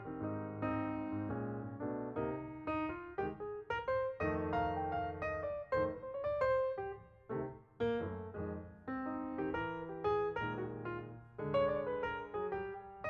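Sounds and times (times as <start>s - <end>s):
electric piano playing chords: 0.0s - 13.0s.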